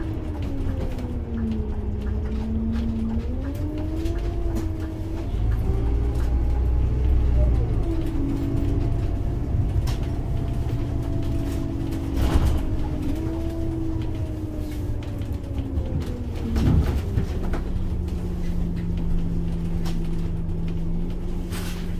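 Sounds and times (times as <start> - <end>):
bus engine rumble and whine: 0.0 - 21.9.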